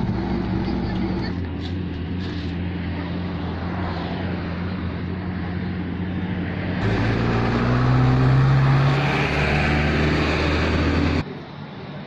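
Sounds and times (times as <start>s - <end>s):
vehicle engine revving: 0.0s - 11.2s.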